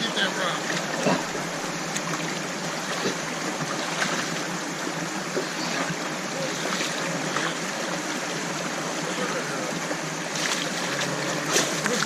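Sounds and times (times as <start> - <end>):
river water running: 0.0 - 12.0.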